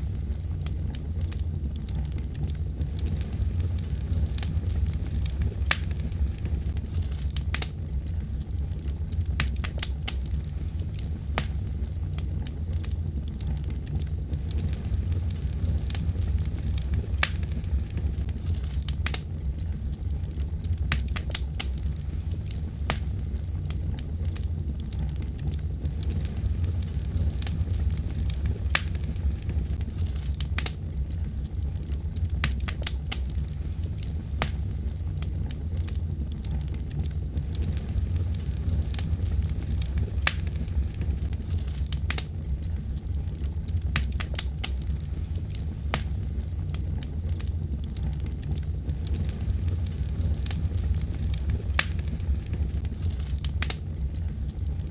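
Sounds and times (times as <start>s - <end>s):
fire crackling and popping: 0.0s - 54.9s
low rumble: 0.0s - 54.9s.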